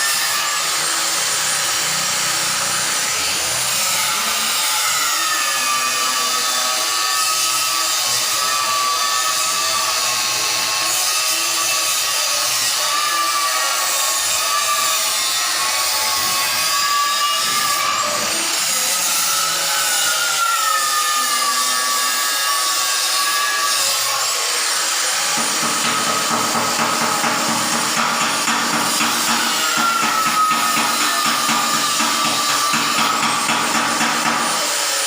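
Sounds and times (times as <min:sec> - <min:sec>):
power tool whining: 0:00.0 - 0:35.0.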